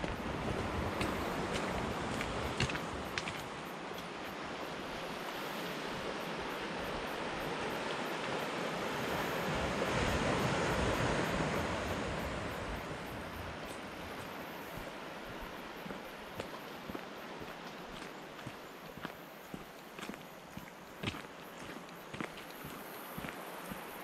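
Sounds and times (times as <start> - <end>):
sea waves washing on shore: 0.0 - 24.0.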